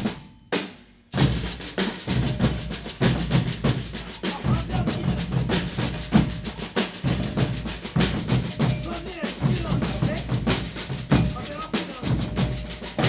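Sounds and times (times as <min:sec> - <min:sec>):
percussion group drumming: 0:00.0 - 0:13.0.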